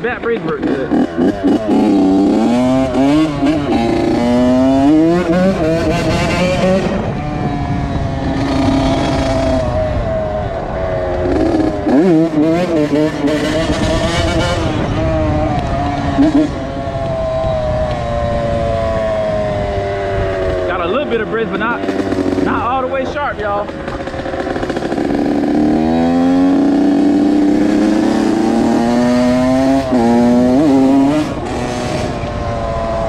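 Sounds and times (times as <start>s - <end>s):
motorbike engine revving: 0.0s - 33.0s.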